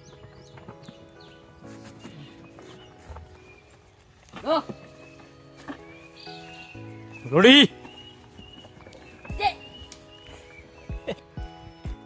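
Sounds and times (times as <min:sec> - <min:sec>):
bird chirps: 0:00.0 - 0:12.0
soft background music: 0:00.0 - 0:12.0.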